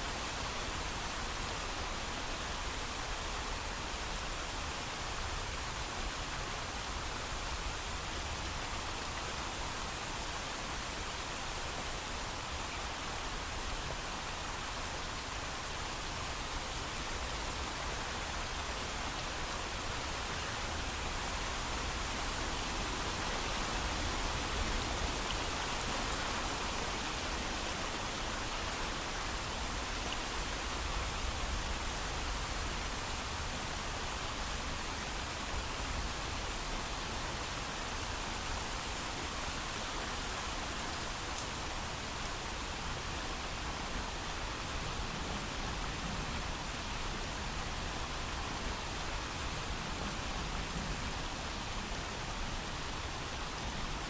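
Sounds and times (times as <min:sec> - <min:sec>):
heavy rain: 0:00.1 - 0:54.0.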